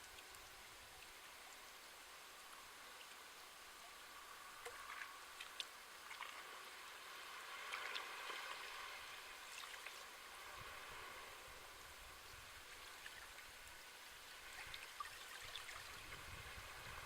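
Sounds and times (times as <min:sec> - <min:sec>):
small waves washing at shore: 0:00.0 - 0:17.0.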